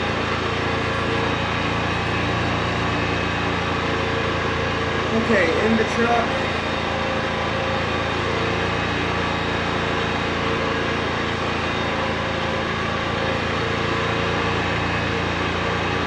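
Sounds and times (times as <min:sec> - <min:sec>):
generator engine hum: 0:00.0 - 0:16.0.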